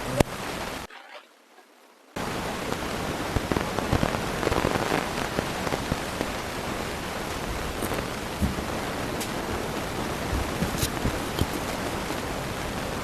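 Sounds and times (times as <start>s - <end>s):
faint crackles: 0.0s - 13.0s
steady hiss: 0.0s - 13.0s.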